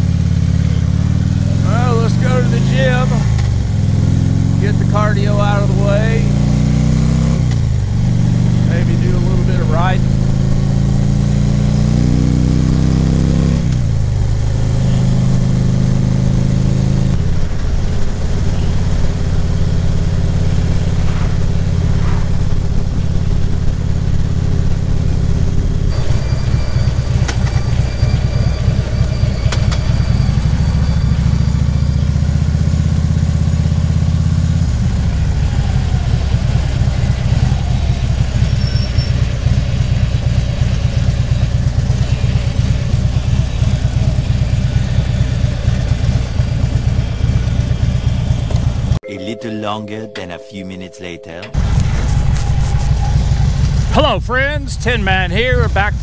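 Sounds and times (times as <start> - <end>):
motorcycle engine running: 0.0 - 49.0
road and wind noise: 0.0 - 49.0, 51.6 - 56.0.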